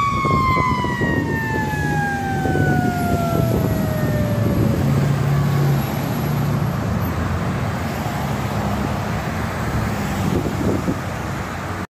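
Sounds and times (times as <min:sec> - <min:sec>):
cars driving past: 0:00.2 - 0:11.9.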